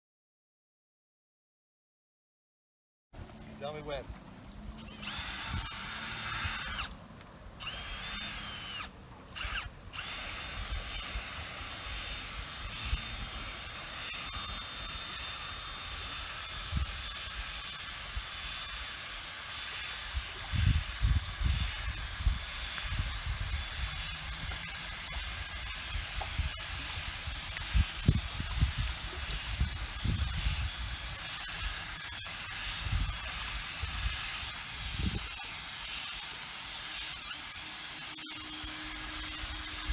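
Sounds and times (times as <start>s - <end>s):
cordless drill motor whine: 4.7s - 7.0s, 7.6s - 39.9s.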